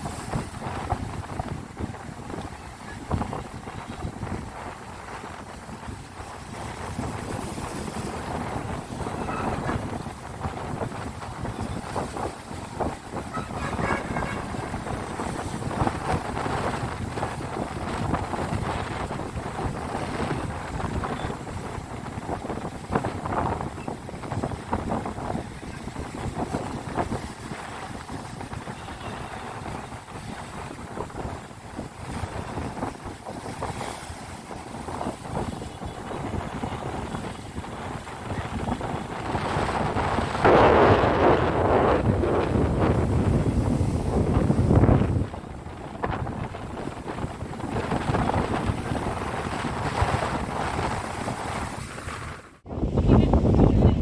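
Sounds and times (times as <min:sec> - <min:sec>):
sea waves surging: 0:00.0 - 0:52.7
wind buffeting microphone: 0:00.0 - 0:54.0.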